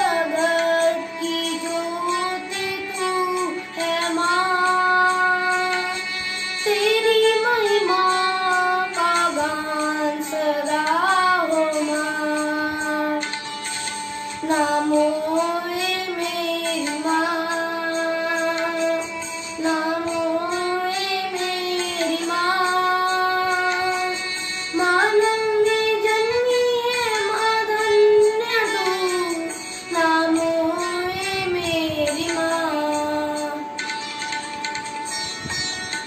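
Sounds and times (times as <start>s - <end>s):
boy singing devotional song: 0.0s - 35.8s.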